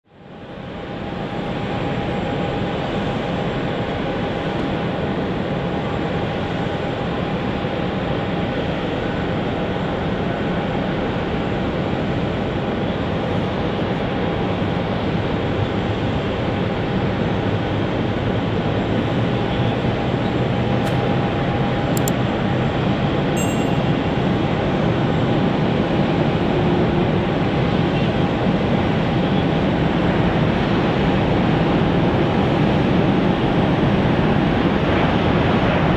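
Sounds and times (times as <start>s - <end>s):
airliner engines running: 0.1s - 35.9s.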